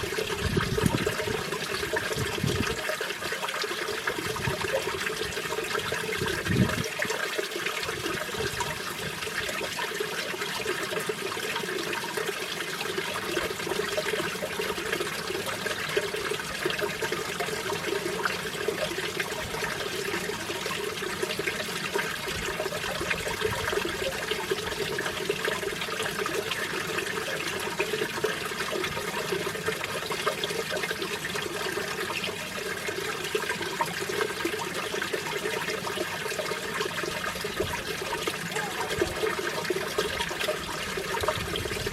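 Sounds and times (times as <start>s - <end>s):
stream rushing over rocks: 0.0s - 41.9s.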